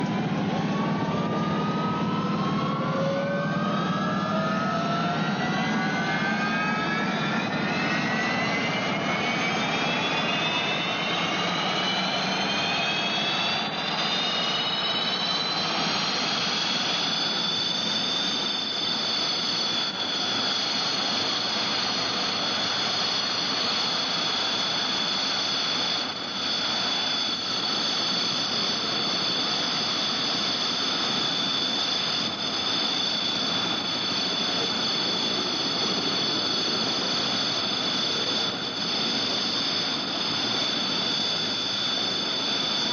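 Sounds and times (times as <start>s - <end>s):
jet engine spooling up: 0.0s - 42.9s.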